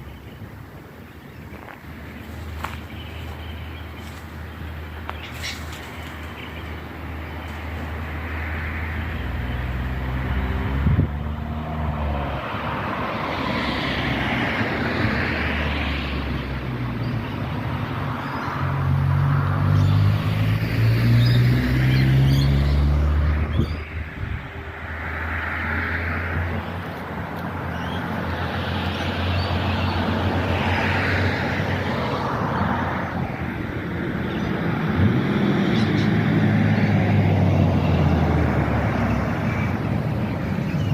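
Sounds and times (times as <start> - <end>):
vehicle engine rumble: 0.0 - 40.9.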